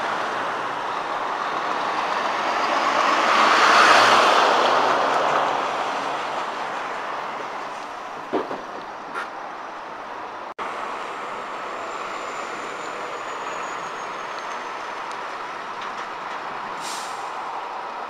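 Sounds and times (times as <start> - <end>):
lorry engine and tyre rumble: 0.0 - 18.0.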